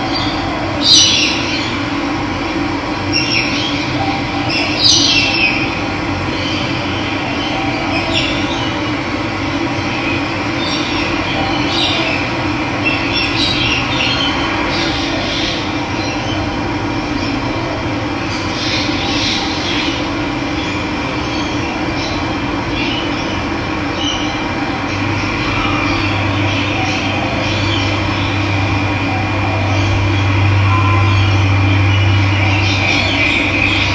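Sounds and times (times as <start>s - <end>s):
birds chirping: 0.0s - 2.0s, 3.0s - 17.6s, 18.2s - 33.9s.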